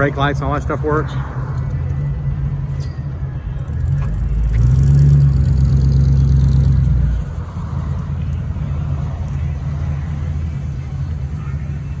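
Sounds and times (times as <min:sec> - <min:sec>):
car engine low exhaust note: 0:00.0 - 0:12.0.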